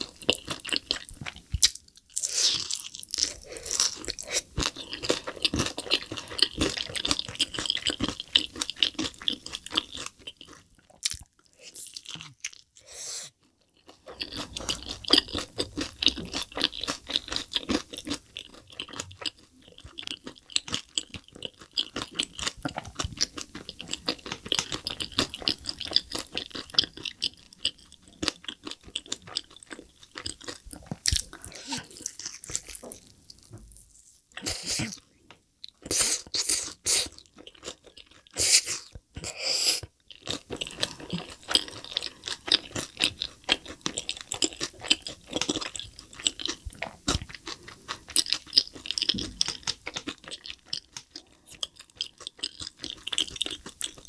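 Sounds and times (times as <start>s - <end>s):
crunching fried chicken: 0.0s - 12.8s, 13.4s - 34.2s, 40.0s - 54.0s
wet chewing: 0.0s - 35.0s, 39.8s - 54.0s.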